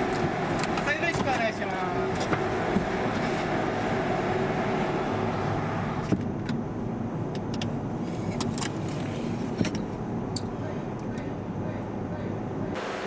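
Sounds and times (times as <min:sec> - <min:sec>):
mechanical rumble and hum: 0:00.0 - 0:13.0.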